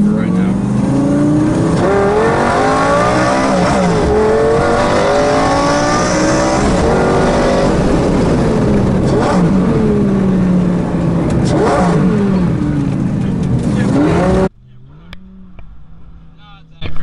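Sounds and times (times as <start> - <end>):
supercar engine accelerating: 0.0 - 17.0.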